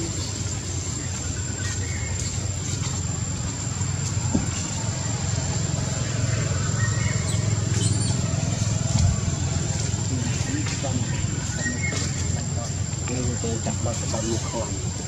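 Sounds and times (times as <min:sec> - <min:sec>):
constant low rumble: 0:00.0 - 0:15.0.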